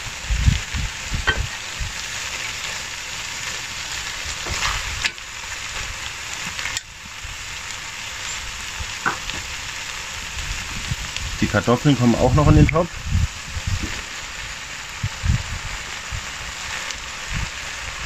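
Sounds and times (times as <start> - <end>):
meat sizzling in a pot: 0.0 - 18.0.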